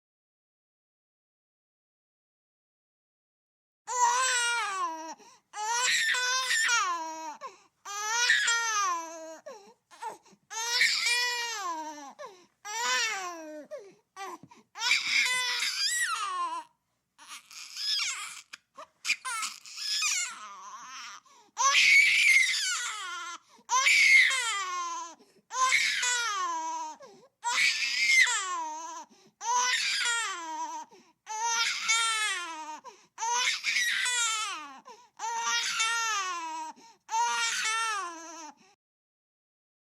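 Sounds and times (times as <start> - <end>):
baby crying: 3.9 - 38.6.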